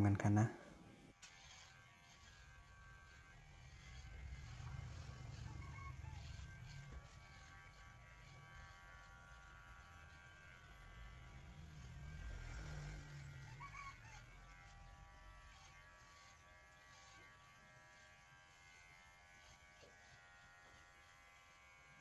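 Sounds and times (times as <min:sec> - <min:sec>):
electric hair clippers buzzing: 0:01.1 - 0:22.0.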